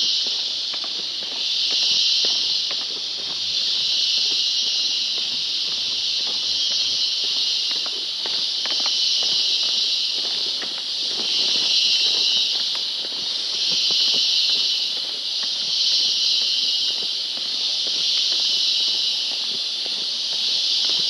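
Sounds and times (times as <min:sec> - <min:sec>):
insect chorus shrill hiss: 0:00.0 - 0:21.0
soft footsteps on trail: 0:00.0 - 0:21.0.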